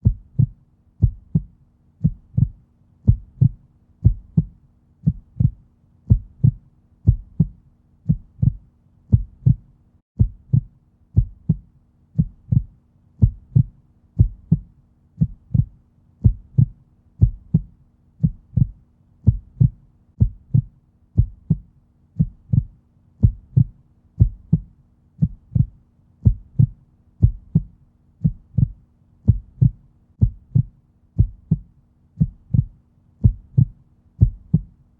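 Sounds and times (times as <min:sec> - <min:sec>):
heartbeat thumps: 0:00.0 - 0:34.8
faint steady hum: 0:00.0 - 0:34.9.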